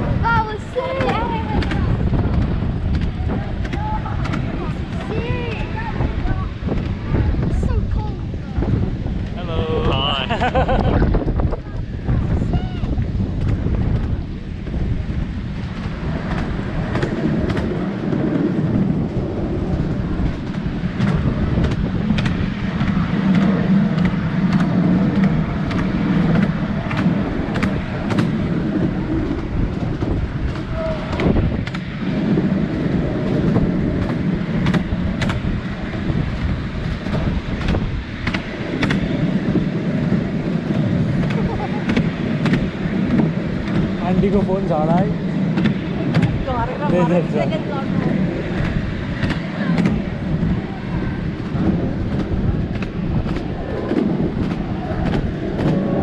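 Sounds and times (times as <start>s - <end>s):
miniature train rumbling: 0.0s - 56.0s
sharp track clicks: 0.2s - 5.8s, 12.8s - 50.5s, 51.2s - 56.0s.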